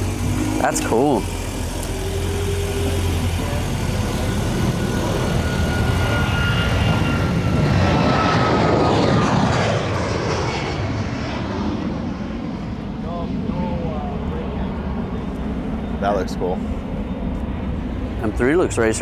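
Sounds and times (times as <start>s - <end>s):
airplane engine passing overhead: 0.0s - 19.0s.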